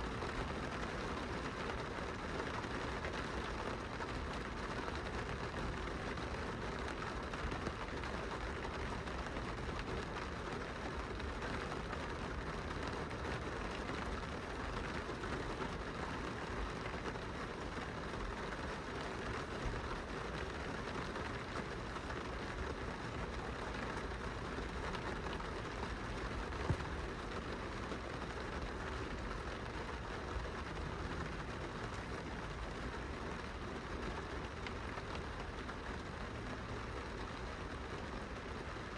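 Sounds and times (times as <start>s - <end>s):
rain on window glass: 0.0s - 38.9s.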